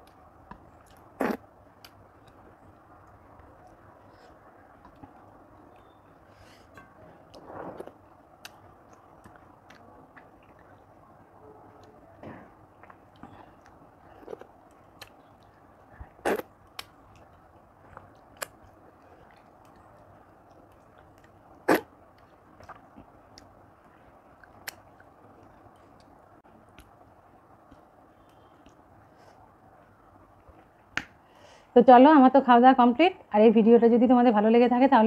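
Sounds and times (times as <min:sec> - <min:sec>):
person chewing food: 0:00.0 - 0:11.0, 0:11.7 - 0:29.9.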